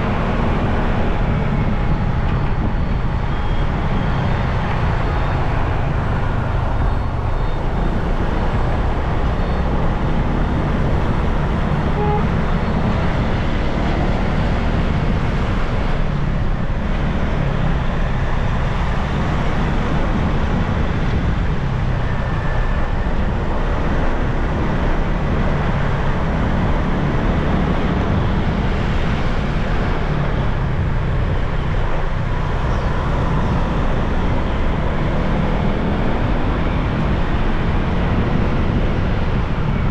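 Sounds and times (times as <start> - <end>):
traffic noise low rumble: 0.0 - 39.9.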